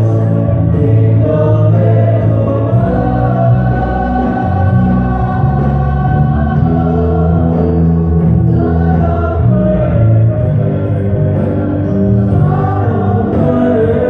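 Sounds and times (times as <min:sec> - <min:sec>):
choir singing gospel: 0:00.0 - 0:14.0.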